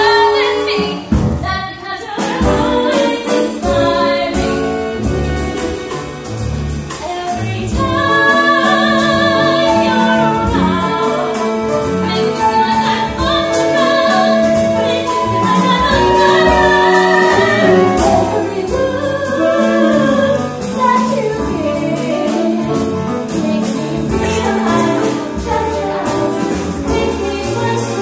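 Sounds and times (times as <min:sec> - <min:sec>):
ensemble of voices singing: 0:00.0 - 0:28.0
small pit orchestra sustained notes: 0:02.5 - 0:28.0.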